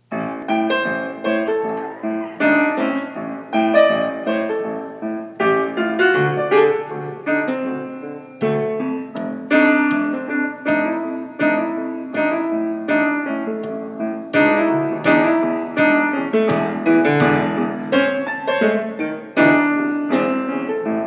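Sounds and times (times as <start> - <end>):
solo piano slow blues: 0.0 - 21.0.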